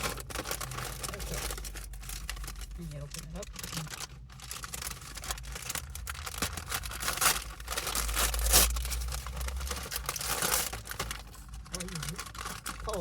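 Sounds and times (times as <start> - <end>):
paper crinkling and rustling: 0.0 - 13.0
paper ripping: 0.0 - 13.0.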